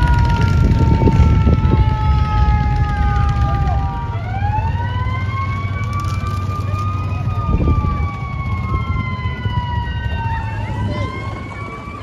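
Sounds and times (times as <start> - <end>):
emergency vehicle sirens wailing: 0.0 - 12.0
steady low rumble: 0.0 - 12.0.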